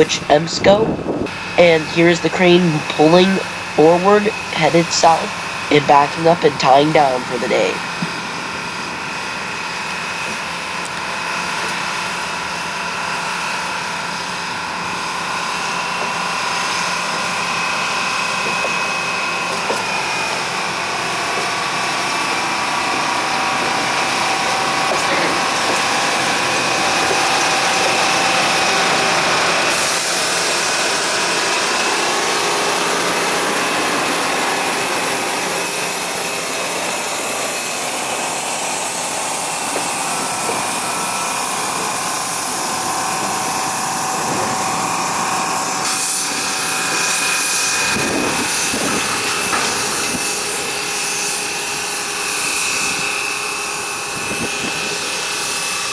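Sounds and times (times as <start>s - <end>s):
locomotive crane engine running: 0.0s - 55.9s.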